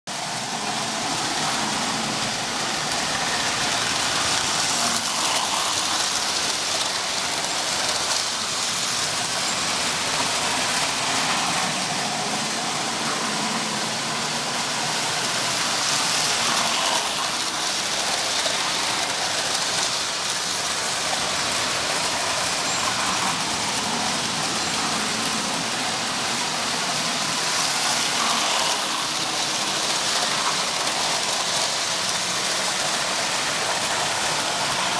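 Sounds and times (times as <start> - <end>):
toy train wheels rolling on rails: 0.1 - 34.9.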